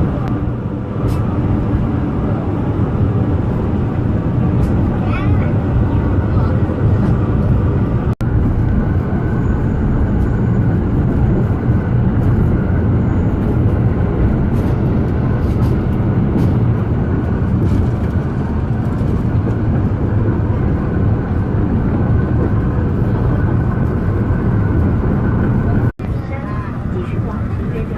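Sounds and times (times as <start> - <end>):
train rumbling: 0.0 - 27.9.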